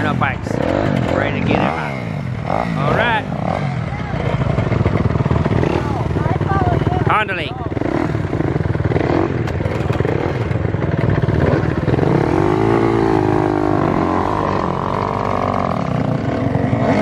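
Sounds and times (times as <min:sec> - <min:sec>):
dirt bike engine revving: 0:00.0 - 0:17.0
dirt bike engines running: 0:00.0 - 0:17.0.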